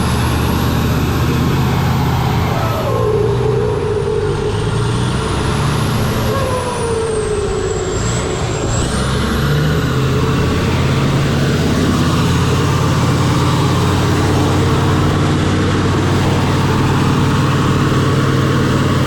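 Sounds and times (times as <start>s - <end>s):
truck engine running loudly: 0.0s - 19.0s.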